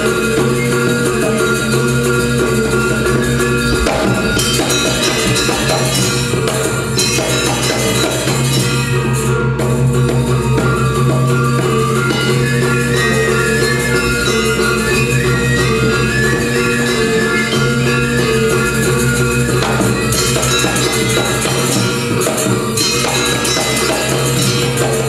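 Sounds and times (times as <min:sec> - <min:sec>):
bronze metallophones ringing: 0:00.0 - 0:25.0
hand-drum strokes: 0:00.0 - 0:25.0.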